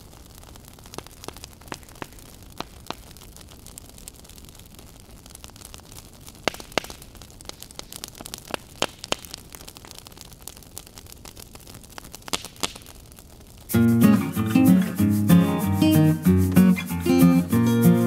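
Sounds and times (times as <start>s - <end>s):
campfire crackling: 0.0s - 18.0s
fire pops: 0.0s - 18.0s.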